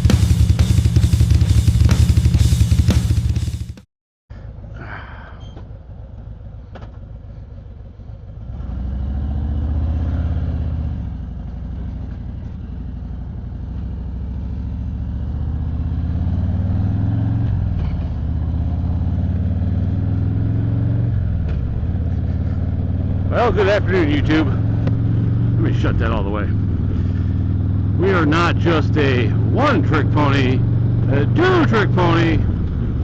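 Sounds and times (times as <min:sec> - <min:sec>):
motorcycle engine running: 0:00.0 - 0:03.8, 0:10.2 - 0:33.0.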